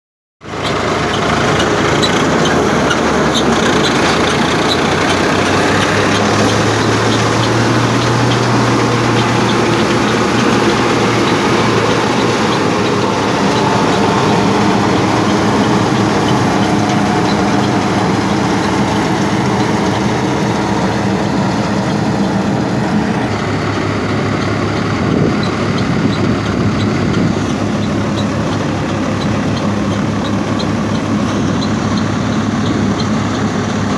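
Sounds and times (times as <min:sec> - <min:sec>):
grass collecting machine: 0:00.4 - 0:33.9
tractor engine running: 0:00.4 - 0:33.9.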